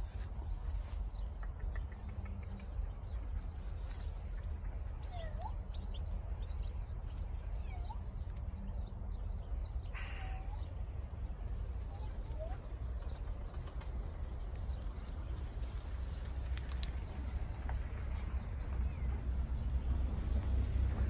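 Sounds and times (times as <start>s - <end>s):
small birds chirping: 0.0s - 21.0s
wind rumbling on microphone: 0.0s - 21.0s.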